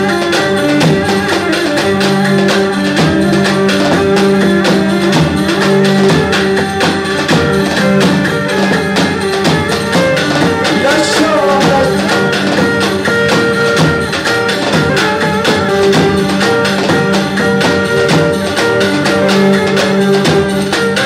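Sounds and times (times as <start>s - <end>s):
melodic instruments: 0.0s - 21.0s
percussion beat: 0.0s - 21.0s.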